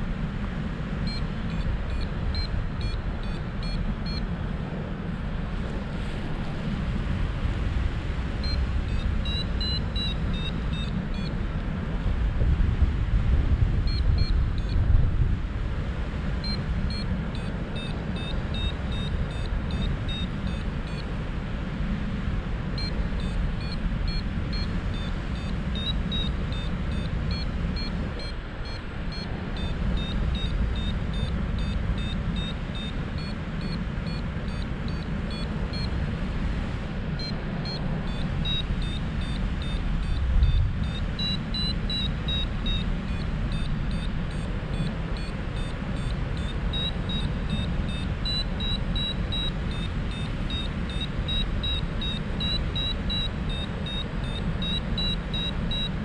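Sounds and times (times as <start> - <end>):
wind rushing over microphone: 0.0 - 56.0
variometer beeping: 1.0 - 4.5, 8.4 - 11.8, 13.8 - 14.9, 16.4 - 21.2, 22.7 - 56.0.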